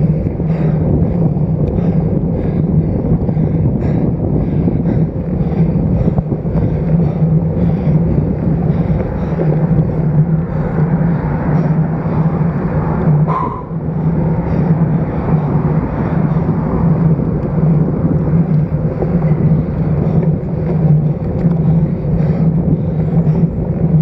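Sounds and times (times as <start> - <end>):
road rumble: 0.0 - 24.0
wind rush: 0.0 - 24.0.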